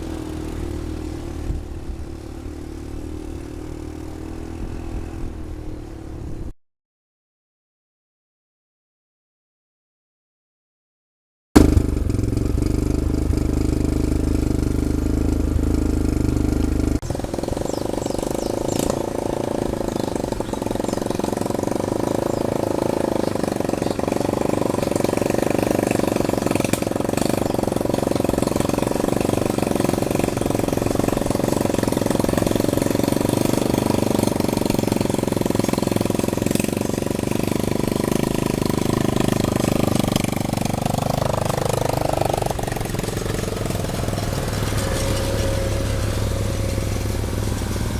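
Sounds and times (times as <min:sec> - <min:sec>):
engine running: 0:00.0 - 0:06.4, 0:11.6 - 0:47.9.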